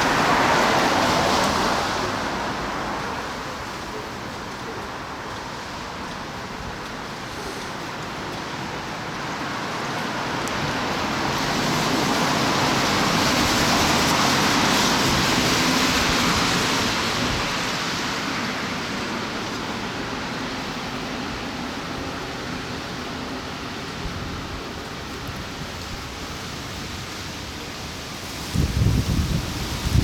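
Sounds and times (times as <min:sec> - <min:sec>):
wind rushing through leaves: 0:00.0 - 0:30.0.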